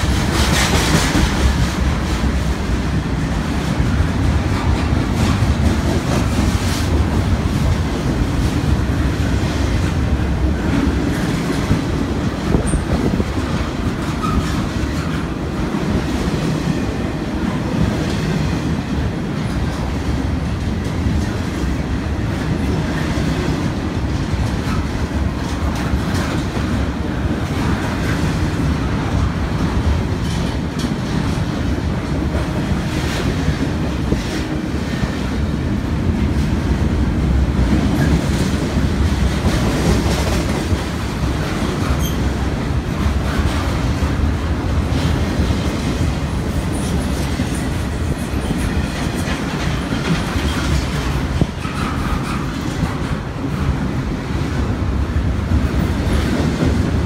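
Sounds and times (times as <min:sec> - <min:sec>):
wheels clacking over rail joints: 0:00.0 - 0:54.7
freight train rumbling past: 0:00.0 - 0:57.0.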